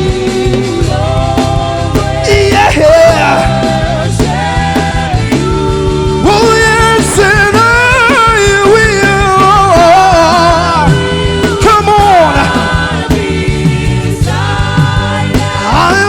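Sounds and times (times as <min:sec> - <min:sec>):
band with drums and bass: 0:00.0 - 0:16.0
lead singer holding notes: 0:00.0 - 0:16.0.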